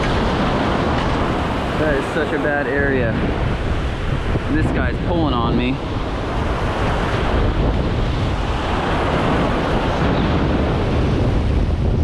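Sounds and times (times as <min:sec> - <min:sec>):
surf breaking on rocks: 0:00.0 - 0:12.0
wind buffeting microphone: 0:00.0 - 0:12.0.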